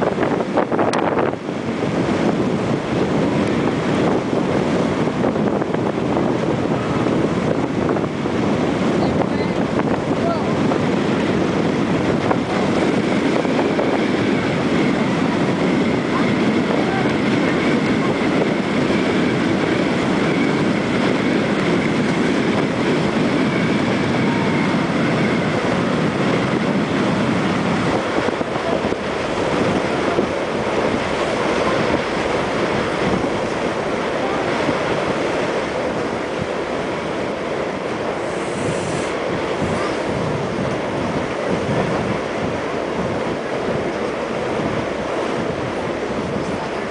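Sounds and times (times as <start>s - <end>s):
boat engines droning: 0.0s - 46.9s
water rushing along hulls: 0.0s - 46.9s
wind buffeting microphone: 0.0s - 46.9s.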